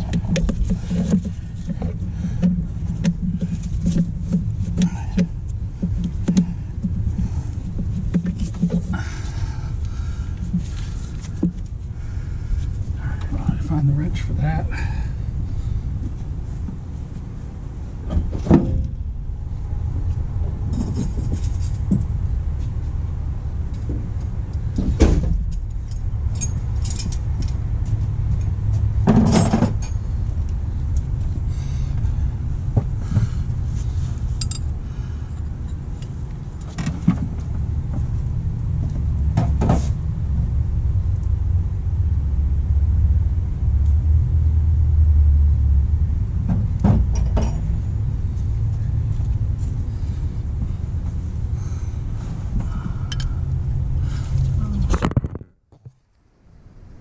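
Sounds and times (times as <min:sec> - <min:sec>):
low background rumble: 0:00.0 - 0:57.0.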